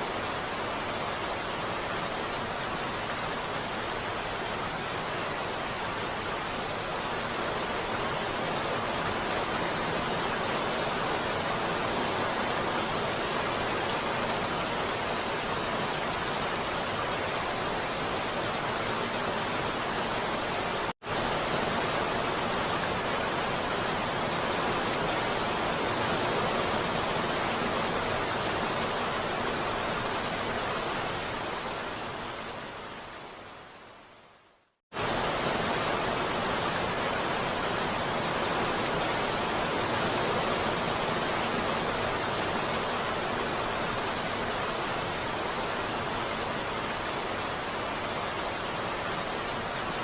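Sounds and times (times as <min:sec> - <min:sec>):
heavy rain: 0:00.0 - 0:50.0.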